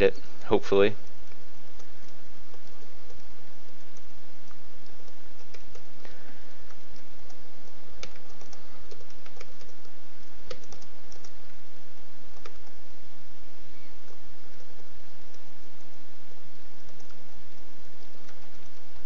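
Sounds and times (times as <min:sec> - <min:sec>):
steady background hiss: 0:00.0 - 0:19.0
computer keyboard typing: 0:00.4 - 0:11.6, 0:12.3 - 0:12.8, 0:14.0 - 0:15.9, 0:16.8 - 0:18.8.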